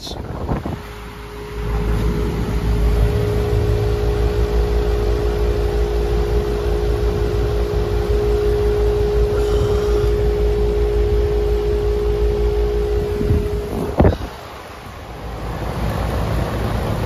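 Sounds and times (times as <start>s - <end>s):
air conditioner motor hum: 0.0s - 17.0s
fan rushing: 0.0s - 17.0s.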